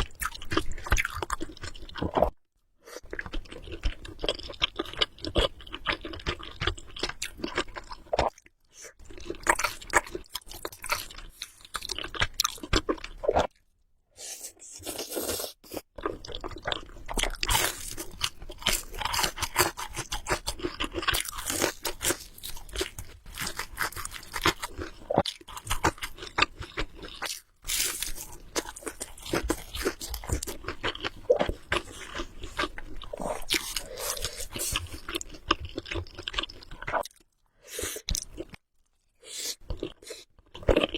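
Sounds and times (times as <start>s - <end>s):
person chewing and biting food: 0.0s - 13.6s, 14.2s - 38.6s, 39.2s - 40.9s.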